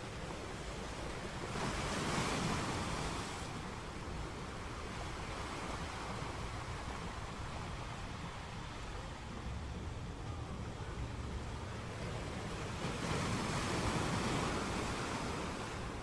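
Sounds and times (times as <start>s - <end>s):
sea surf washing ashore: 0.0s - 16.0s.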